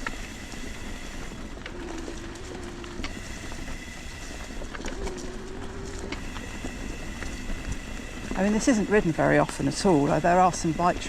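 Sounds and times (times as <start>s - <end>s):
bike clicking and rattling: 0.0s - 11.0s
bike tyres rumbling on dirt: 0.0s - 11.0s.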